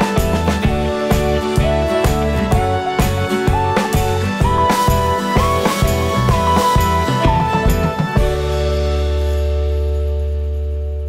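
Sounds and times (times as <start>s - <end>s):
background music held chord: 0.0s - 11.0s.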